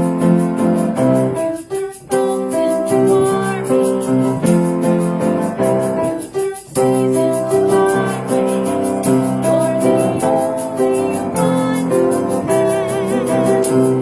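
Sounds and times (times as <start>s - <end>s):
piano playing hymn chords: 0.0s - 14.0s.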